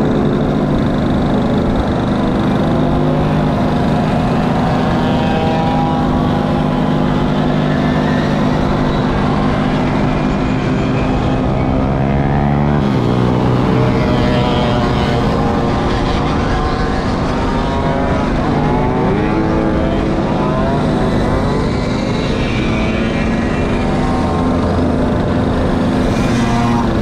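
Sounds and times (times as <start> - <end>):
buzzing moped engines: 0.0 - 27.0
close moped engine running: 0.0 - 27.0.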